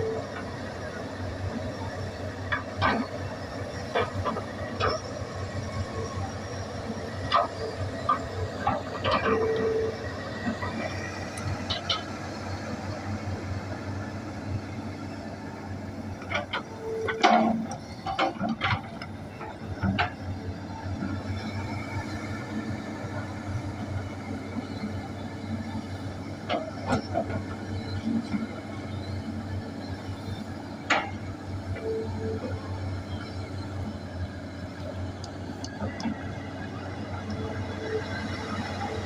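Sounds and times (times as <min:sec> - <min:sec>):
excavator running: 0:00.0 - 0:39.0.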